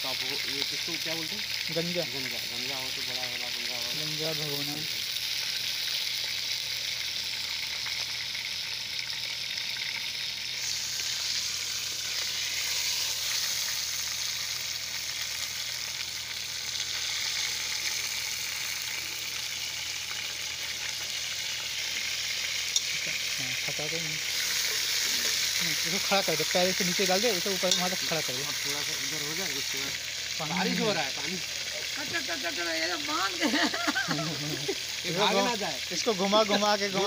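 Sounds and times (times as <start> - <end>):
chicken frying in hot oil: 0.0 - 37.0.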